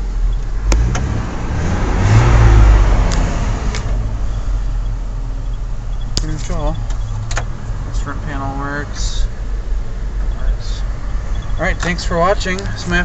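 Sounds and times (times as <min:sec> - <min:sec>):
truck engine revving and idling: 0:00.0 - 0:13.0.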